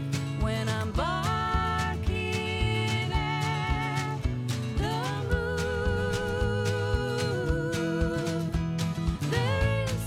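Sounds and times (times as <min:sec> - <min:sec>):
country pop song: 0:00.0 - 0:10.0.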